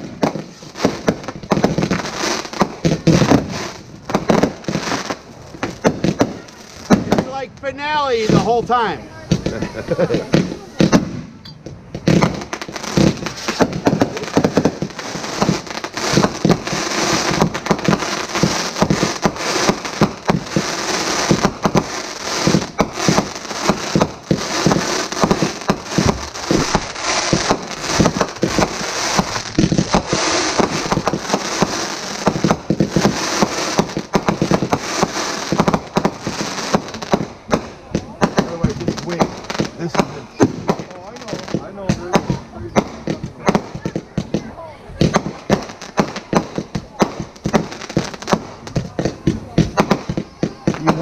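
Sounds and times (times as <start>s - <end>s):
fireworks bursting and crackling: 0.0s - 51.0s.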